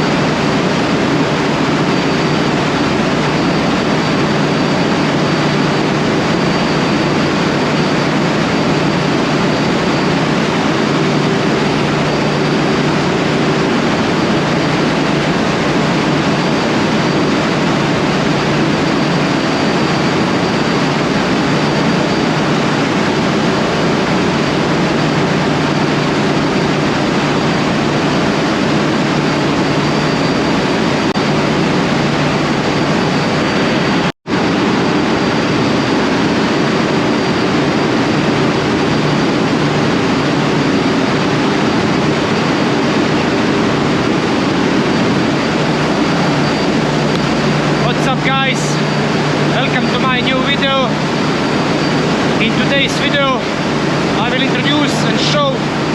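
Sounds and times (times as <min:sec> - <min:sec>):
engine-room machinery running: 0:00.0 - 0:55.9.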